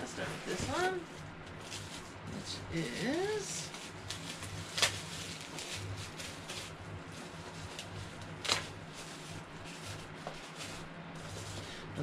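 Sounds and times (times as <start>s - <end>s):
plastic wrapping crinkling: 0.2s - 11.7s.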